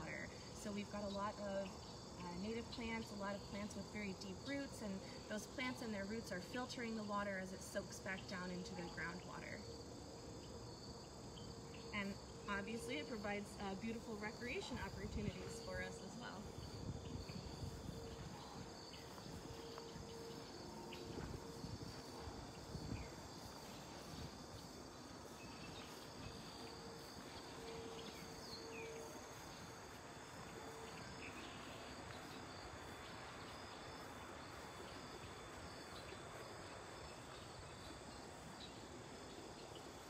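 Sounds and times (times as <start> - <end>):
crickets and insects trilling: 0.0 - 40.0.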